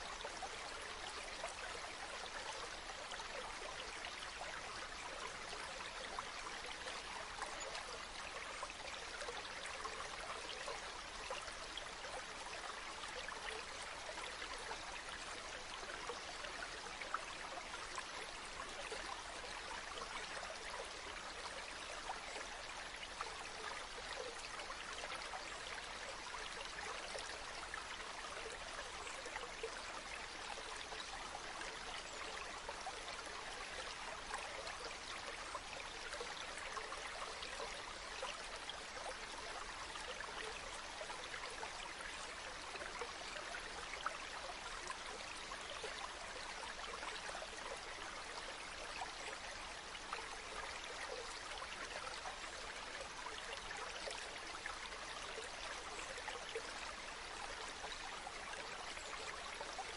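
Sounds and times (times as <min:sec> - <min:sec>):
river water over stones: 0:00.0 - 0:59.9.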